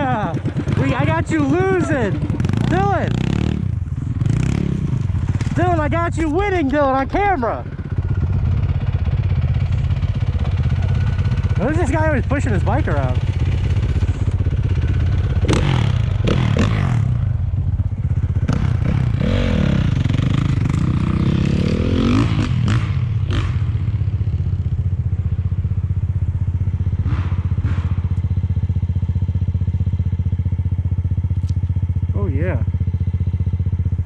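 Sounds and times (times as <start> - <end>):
motorbike engine idling: 0.0 - 34.0.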